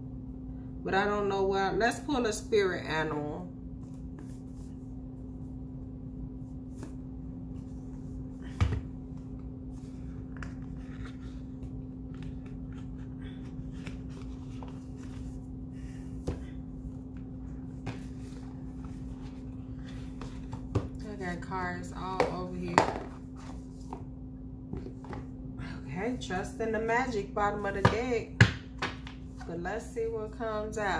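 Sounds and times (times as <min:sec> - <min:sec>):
low hum: 0:00.0 - 0:28.4.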